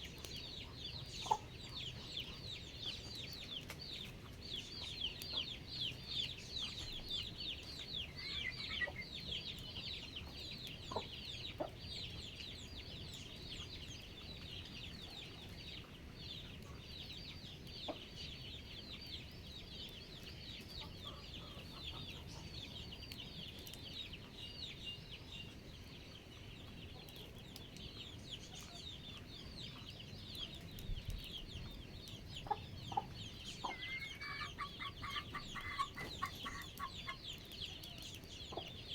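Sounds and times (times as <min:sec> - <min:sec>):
chickens cheeping: 0:00.1 - 0:19.0, 0:20.3 - 0:38.9.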